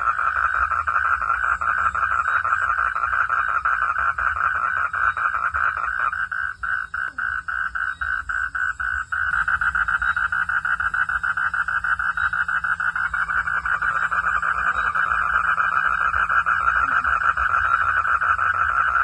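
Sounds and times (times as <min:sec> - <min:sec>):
frogs calling: 0:00.0 - 0:19.0.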